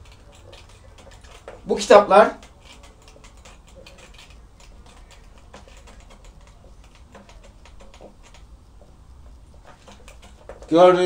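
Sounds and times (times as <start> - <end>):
marker writing on whiteboard: 0.0 - 10.8.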